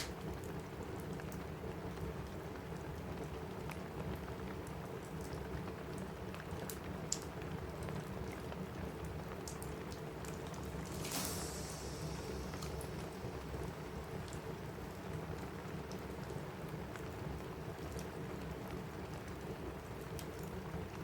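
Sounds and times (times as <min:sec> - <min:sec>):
rain on a roof: 0:00.0 - 0:21.0
wood fire crackling: 0:00.0 - 0:21.0.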